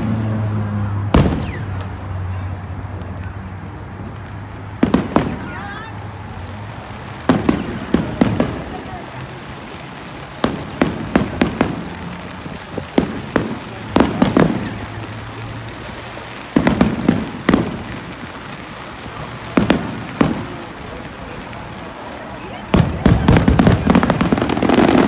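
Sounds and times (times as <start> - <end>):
fireworks booming with echo: 0.0 - 25.0.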